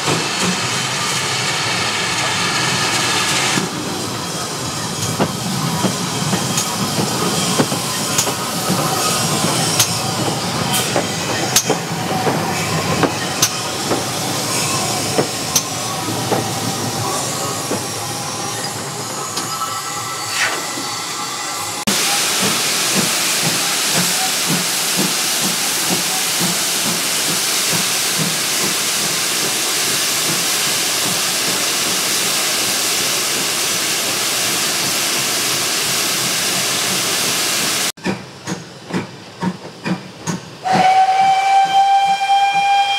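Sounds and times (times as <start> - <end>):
steam locomotive simmering: 0.0 - 42.9
steam hissing from safety valves: 0.1 - 37.9.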